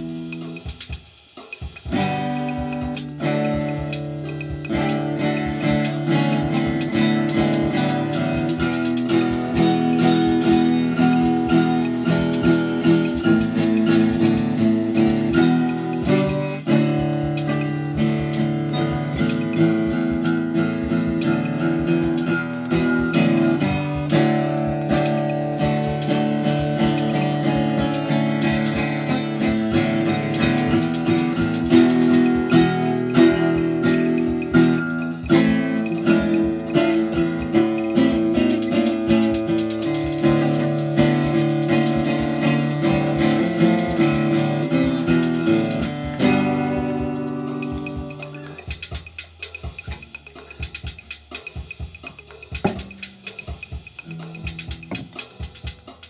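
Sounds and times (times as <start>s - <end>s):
acoustic guitar chords: 0.0s - 56.0s.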